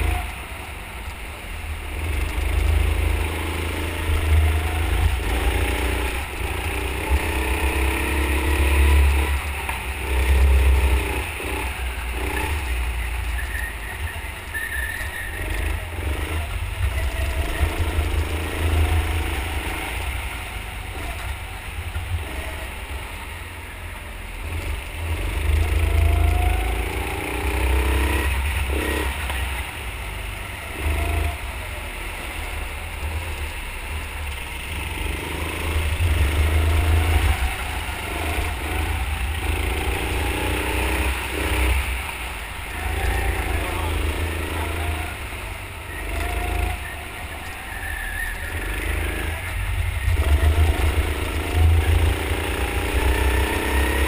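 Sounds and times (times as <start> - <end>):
go-kart engine: 0.0 - 54.0.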